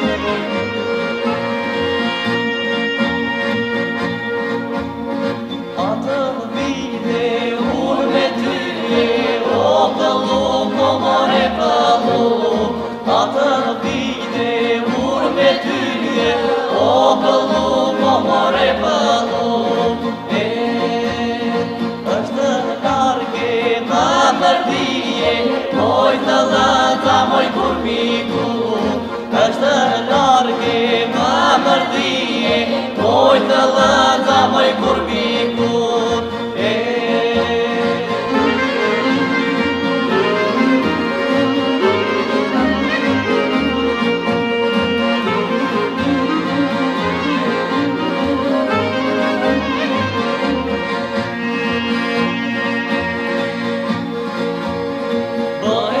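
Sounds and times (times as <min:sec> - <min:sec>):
folk instruments playing: 0:00.0 - 0:56.0
group of singers: 0:05.7 - 0:53.7, 0:55.5 - 0:56.0
held vocal drone: 0:05.8 - 0:53.7.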